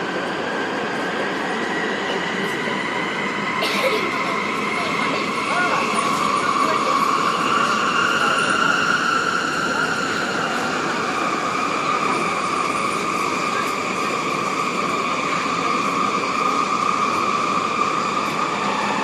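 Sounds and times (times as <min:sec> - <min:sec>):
subway train rumbling with whine: 0:00.0 - 0:19.0.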